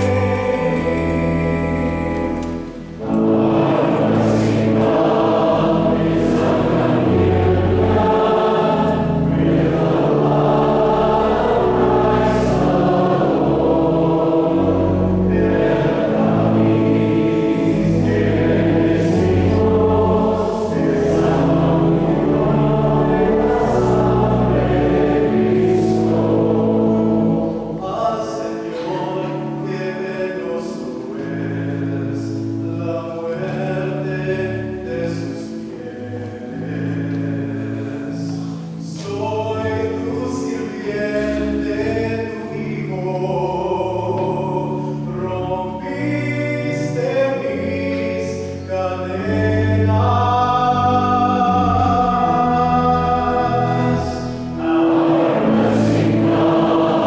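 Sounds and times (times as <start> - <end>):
held accompaniment chords: 0.0 - 57.0
man singing church piece: 0.0 - 57.0.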